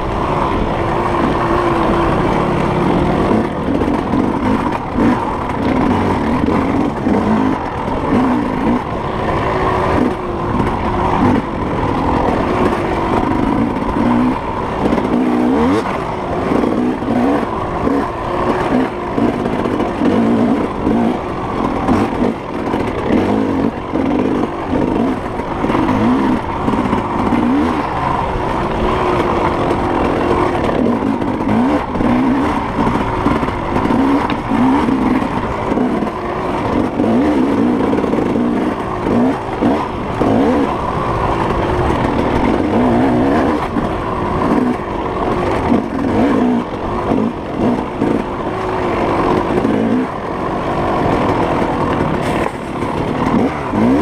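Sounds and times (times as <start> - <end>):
racing engine revving: 0.0 - 54.0
trail noise: 0.0 - 54.0
wind: 0.0 - 54.0.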